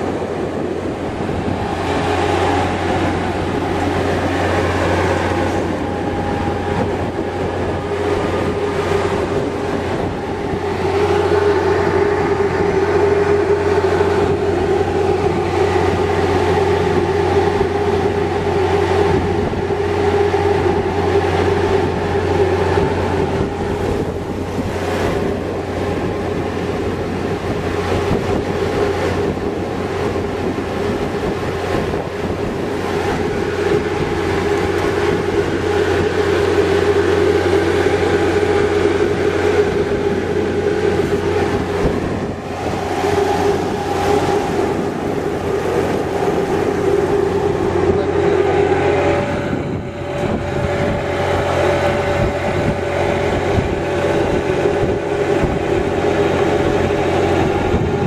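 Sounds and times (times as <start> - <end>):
higher steady tone: 0.0 - 27.4, 31.8 - 58.0
boat engine humming: 0.0 - 58.0.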